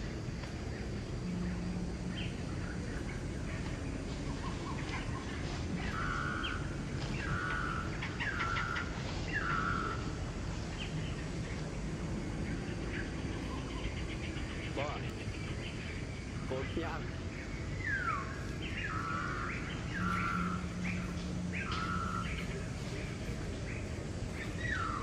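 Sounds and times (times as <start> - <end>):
low outdoor rumble: 0.0 - 25.0
bird calling: 0.8 - 11.7, 12.6 - 25.0.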